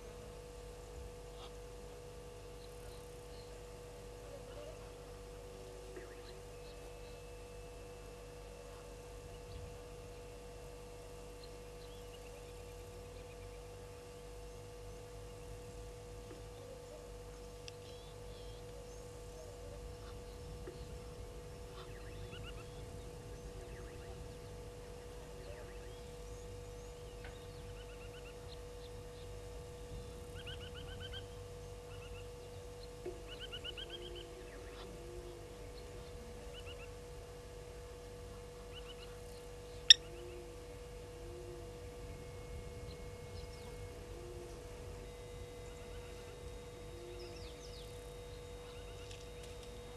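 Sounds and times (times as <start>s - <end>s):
steady electrical hum: 0.0s - 49.9s.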